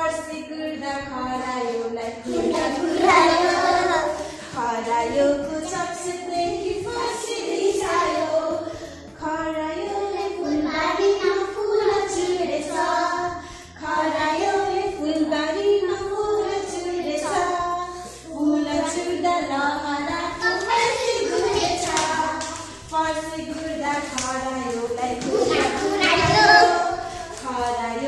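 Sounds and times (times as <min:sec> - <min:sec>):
children singing together: 0:00.9 - 0:28.0.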